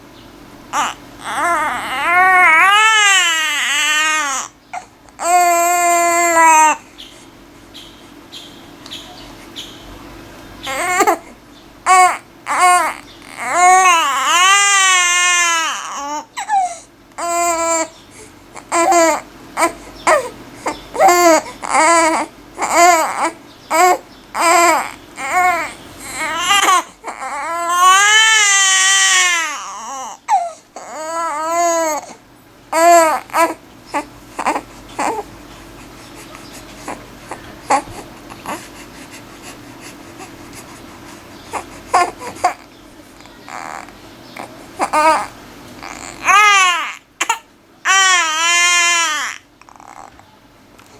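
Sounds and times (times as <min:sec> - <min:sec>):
infant crying: 0:00.7 - 0:06.9, 0:10.6 - 0:35.3, 0:36.8 - 0:38.8, 0:41.5 - 0:50.2.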